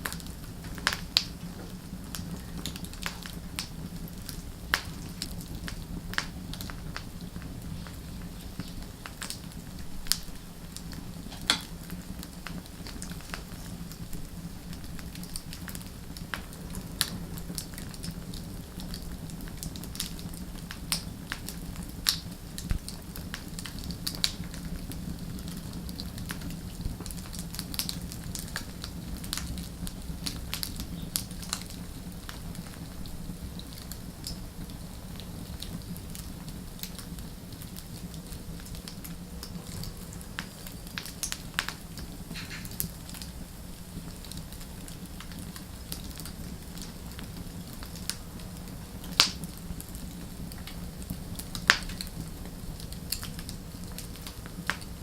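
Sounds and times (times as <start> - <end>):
fire popping and snapping: 0.0 - 55.0
low rumble of flames: 0.0 - 55.0
wood fire crackling: 0.0 - 55.0.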